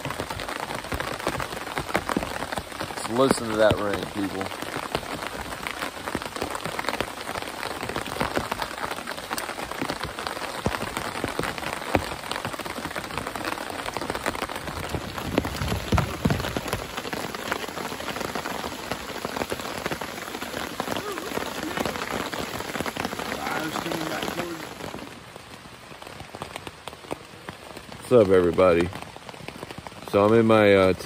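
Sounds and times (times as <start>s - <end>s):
heavy rain on a tarp: 0.0s - 31.0s.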